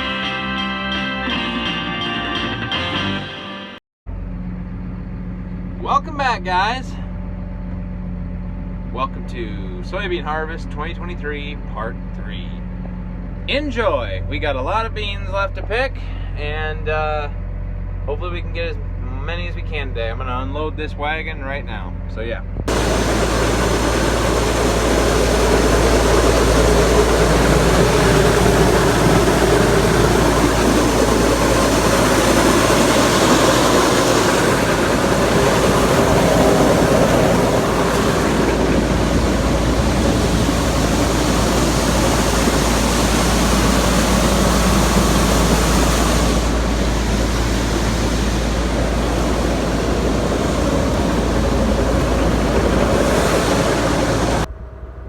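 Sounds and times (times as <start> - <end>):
even mechanical noise: 4.1 - 55.0
farm machinery engine rumble: 4.1 - 55.0.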